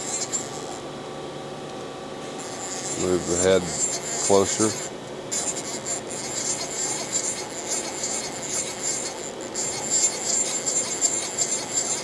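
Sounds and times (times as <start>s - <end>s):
high-pitched machine whine: 0.0s - 1.4s, 2.0s - 12.0s
grinder machine hiss: 2.3s - 12.0s.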